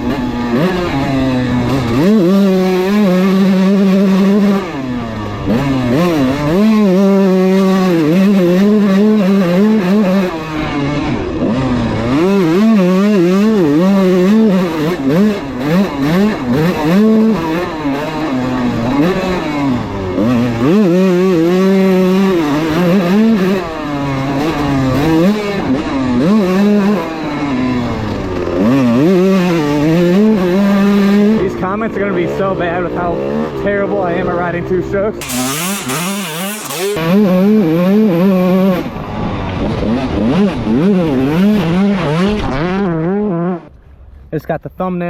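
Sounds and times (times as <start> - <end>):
dirt bike engine revving: 0.0 - 43.7.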